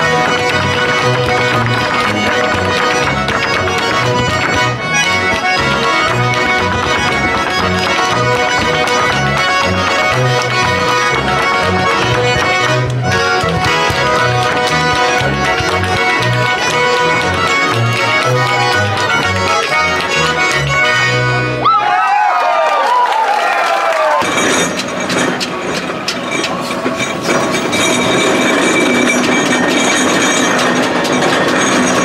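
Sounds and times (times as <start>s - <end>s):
folk music with accordion: 0.0s - 21.6s, 24.2s - 32.0s
pulsing bass line: 0.0s - 21.7s, 24.2s - 32.0s.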